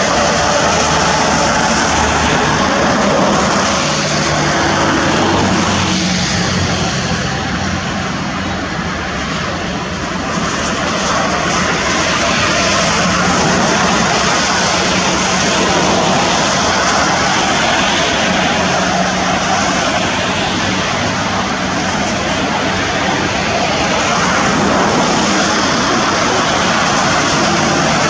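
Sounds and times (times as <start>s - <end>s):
engine drone of passing vehicles: 0.0s - 28.0s.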